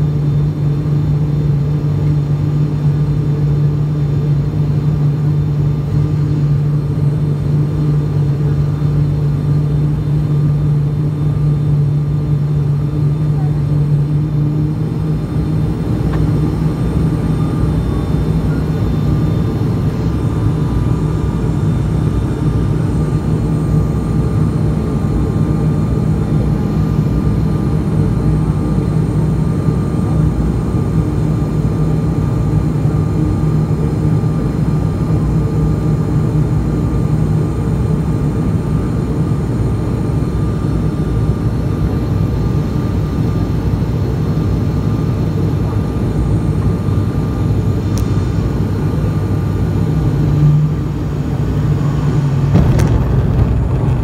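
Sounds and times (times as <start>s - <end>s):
turboprop engines droning in cabin: 0.0s - 54.0s.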